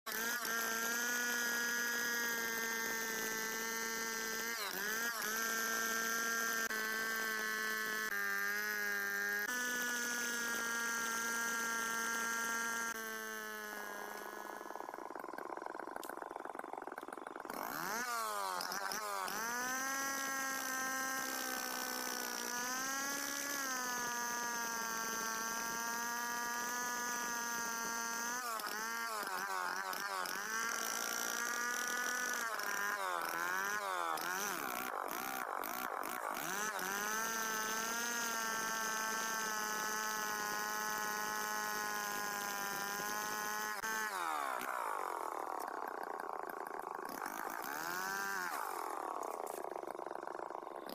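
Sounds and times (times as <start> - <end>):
chainsaw sawing into tree trunk: 0.1 - 50.9.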